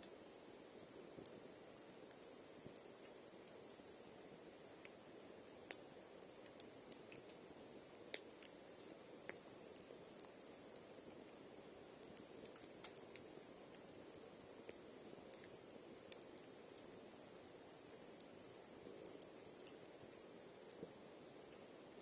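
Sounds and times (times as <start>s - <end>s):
campfire crackling: 0.0s - 22.0s
faint low hiss: 0.0s - 22.0s.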